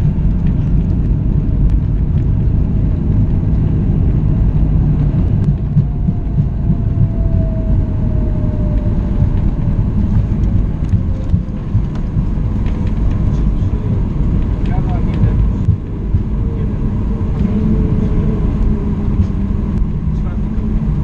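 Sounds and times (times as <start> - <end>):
aircraft cabin rumble: 0.0 - 21.0.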